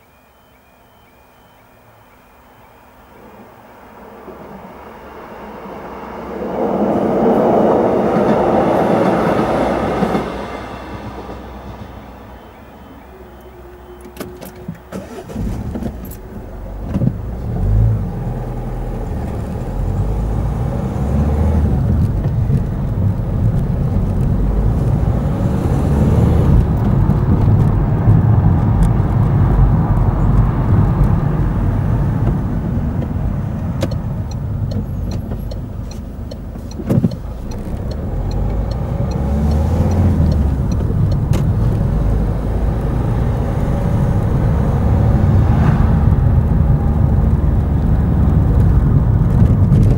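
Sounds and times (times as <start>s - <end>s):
road noise: 0.0s - 49.9s
car engine starting and driving: 3.0s - 49.9s.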